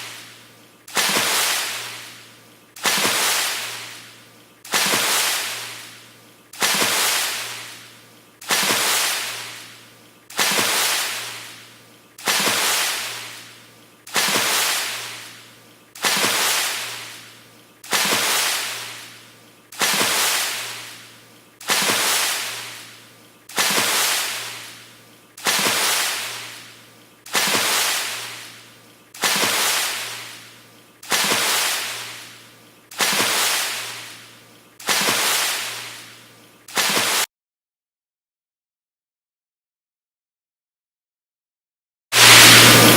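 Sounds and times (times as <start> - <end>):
water splash: 0.0 - 37.3, 42.2 - 42.9.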